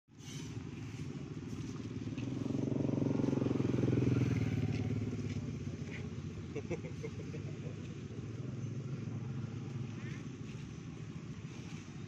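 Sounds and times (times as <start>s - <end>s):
small engine passing by: 0.1s - 12.0s.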